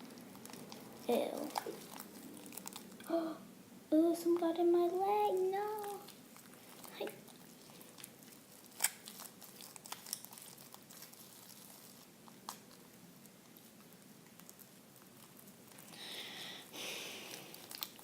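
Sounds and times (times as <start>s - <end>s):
slime clicking and crackling: 0.0s - 3.1s, 5.2s - 16.0s, 17.2s - 18.0s.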